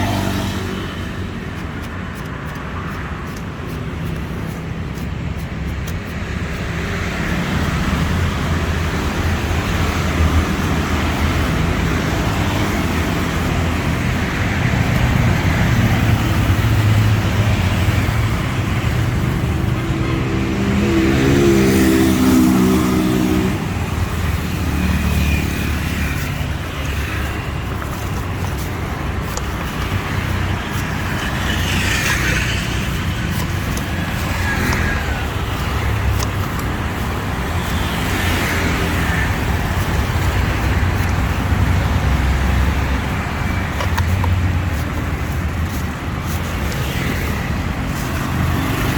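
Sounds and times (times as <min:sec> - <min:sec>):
street traffic: 0:00.0 - 0:48.9.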